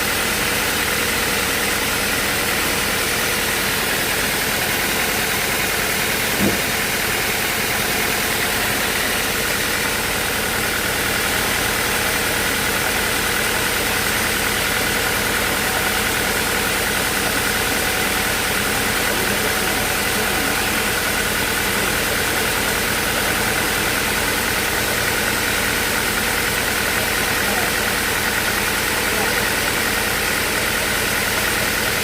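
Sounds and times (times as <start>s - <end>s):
sawmill machinery droning: 0.0s - 32.0s.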